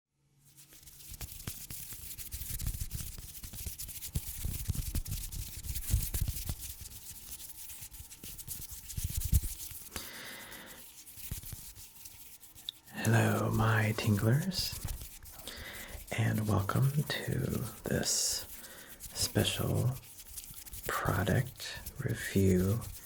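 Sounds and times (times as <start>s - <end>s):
rubbing and scratching: 0.4s - 23.0s.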